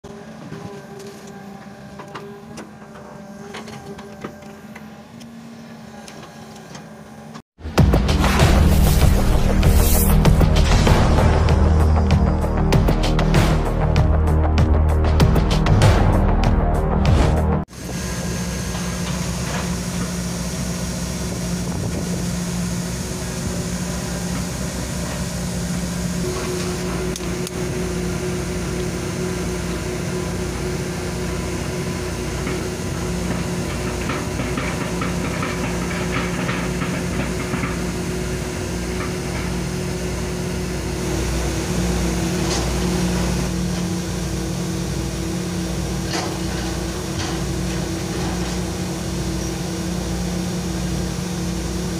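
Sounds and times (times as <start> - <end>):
excavator diesel engine: 0.0 - 51.9
steady whine: 0.0 - 51.9.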